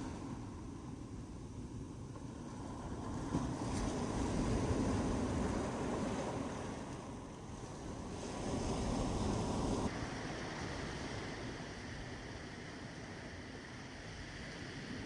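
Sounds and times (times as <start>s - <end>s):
ocean surf on a beach: 0.0s - 15.0s
wind: 0.0s - 15.0s.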